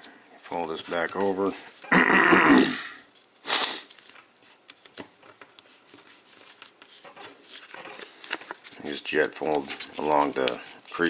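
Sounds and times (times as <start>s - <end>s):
paper rustling and crinkling: 0.5s - 1.9s, 3.0s - 11.0s.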